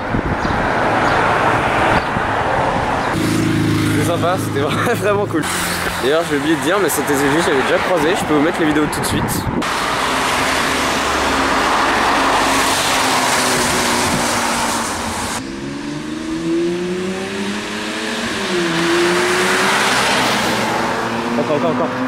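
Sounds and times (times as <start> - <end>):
loud rushing noise: 0.0 - 21.4
car engine accelerating: 0.6 - 8.0, 9.6 - 22.0.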